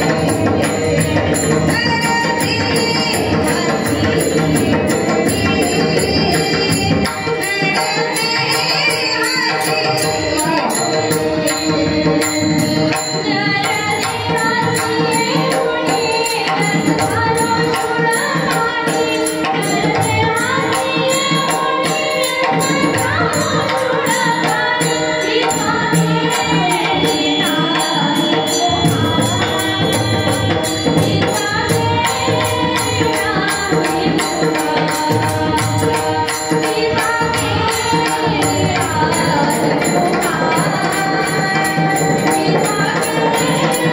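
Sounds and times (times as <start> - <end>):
instrumental accompaniment: 0.0 - 43.9
person singing devotional song: 0.0 - 43.9
steady percussion beat: 0.0 - 43.9.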